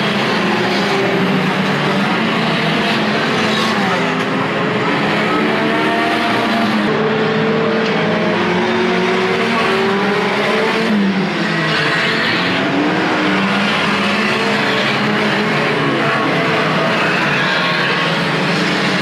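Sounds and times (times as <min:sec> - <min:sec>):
racing car engines droning: 0:00.0 - 0:19.0.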